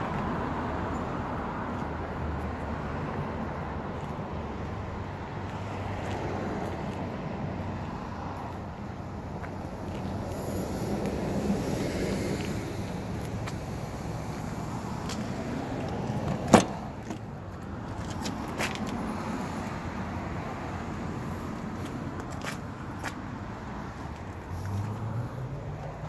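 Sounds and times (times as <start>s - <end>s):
traffic noise: 0.0s - 26.0s.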